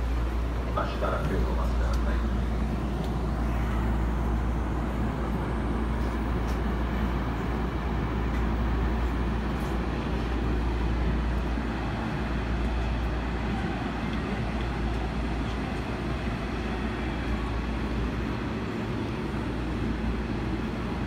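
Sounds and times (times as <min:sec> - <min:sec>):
train equipment hum and air rush: 0:00.0 - 0:21.0.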